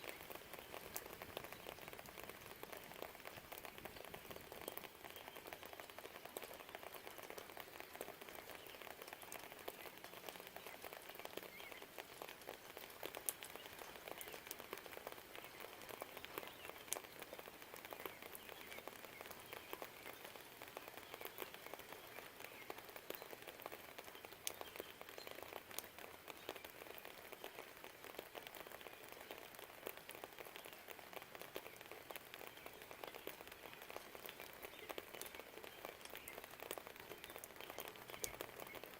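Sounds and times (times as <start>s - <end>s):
rain falling: 0.0s - 38.9s
sharp water drips: 0.0s - 38.9s.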